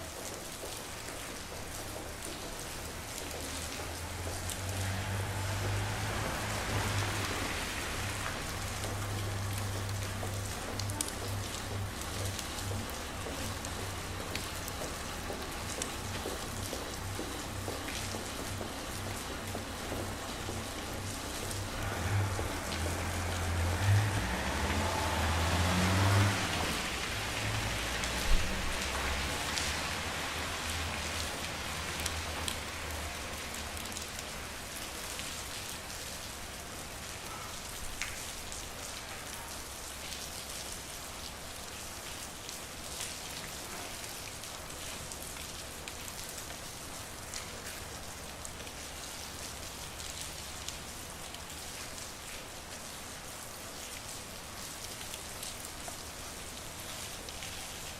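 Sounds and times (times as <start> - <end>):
rain falling on street: 0.0 - 57.9
raindrops ticking on surfaces: 0.0 - 57.9.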